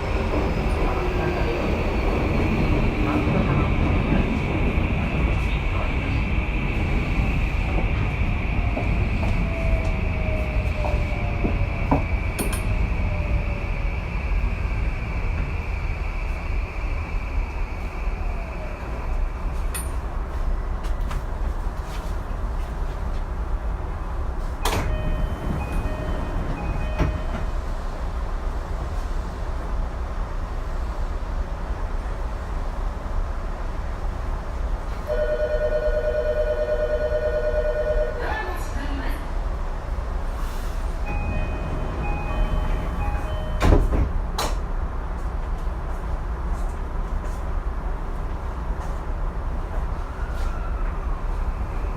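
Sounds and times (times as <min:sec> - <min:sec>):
train wheels rumbling on rail: 0:00.0 - 0:35.3, 0:38.0 - 0:51.9.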